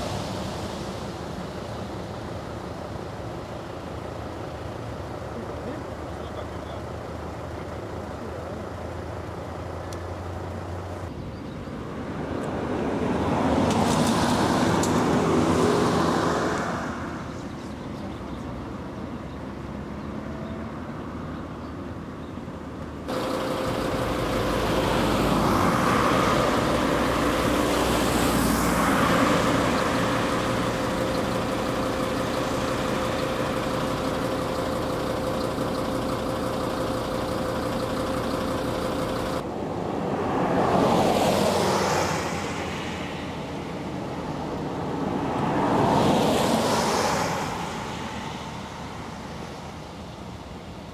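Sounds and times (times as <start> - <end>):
steady engine hum: 0.0 - 50.9
vehicles passing by: 0.0 - 50.9.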